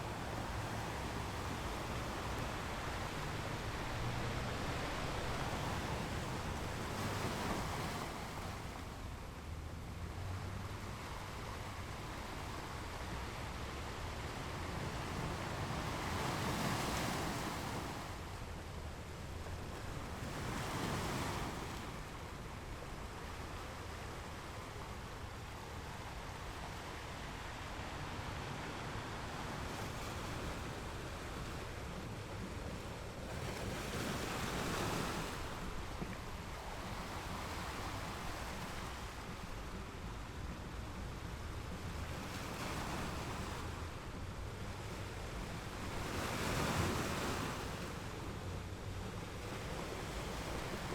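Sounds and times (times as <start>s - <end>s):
ocean waves breaking on rocks: 0.0s - 9.0s, 10.2s - 22.2s, 23.2s - 50.9s.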